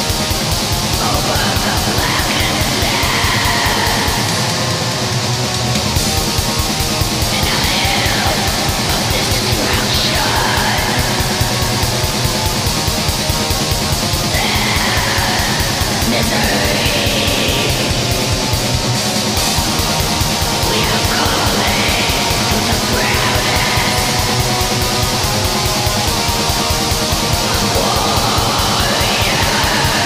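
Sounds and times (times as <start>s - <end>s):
distorted guitars: 0.0s - 30.0s
fast drumming: 0.0s - 30.0s
harsh screamed vocals: 0.7s - 5.7s, 6.9s - 30.0s.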